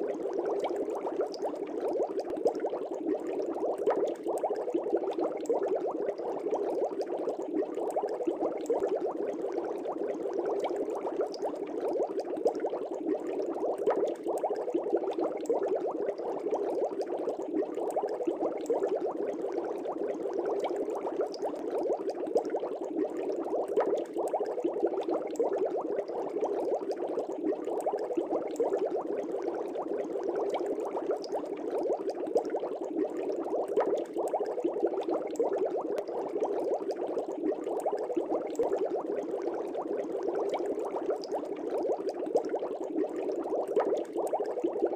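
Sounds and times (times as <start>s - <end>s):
air bubbling in fish tank: 0.0s - 44.9s.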